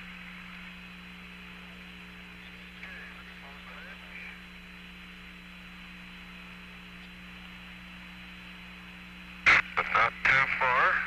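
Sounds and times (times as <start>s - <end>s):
low hum: 0.0s - 11.0s
radio static hiss: 0.0s - 11.0s.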